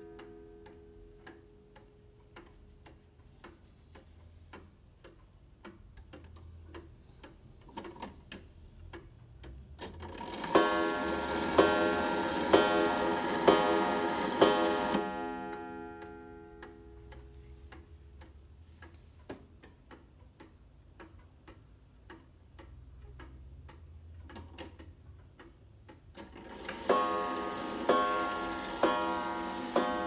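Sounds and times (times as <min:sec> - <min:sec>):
pendulum clock ticking: 0:00.0 - 0:30.0.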